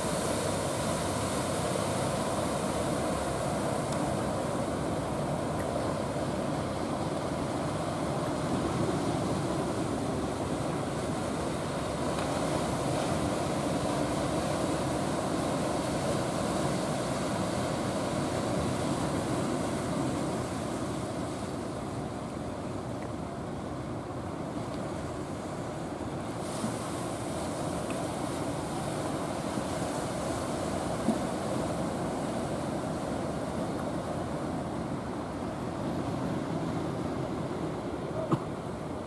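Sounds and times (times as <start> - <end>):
surf and rushing water: 0.0 - 39.0.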